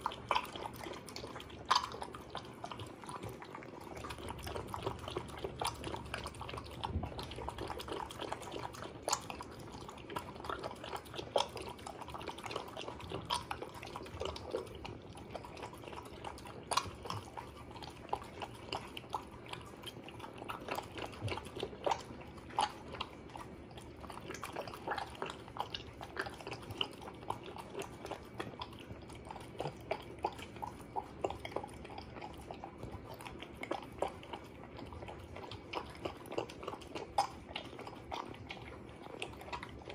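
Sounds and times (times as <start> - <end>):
dog eating wet food: 0.0 - 39.9.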